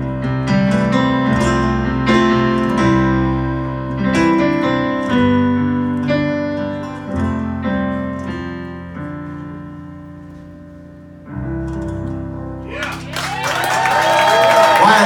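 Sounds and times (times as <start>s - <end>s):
acoustic guitar: 0.0s - 13.4s
piano chords: 0.0s - 15.0s.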